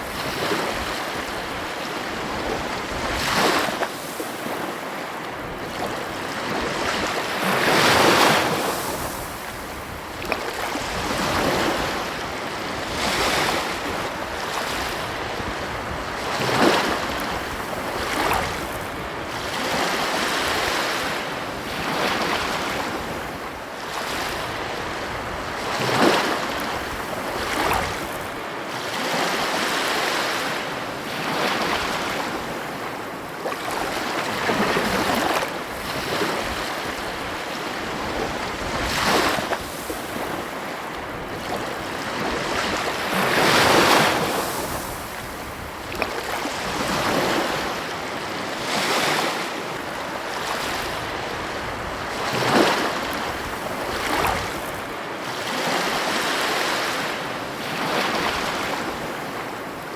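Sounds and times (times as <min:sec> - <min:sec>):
wind noise on microphone: 0:00.0 - 0:28.5, 0:33.4 - 0:56.2
ocean waves breaking: 0:00.0 - 0:59.9.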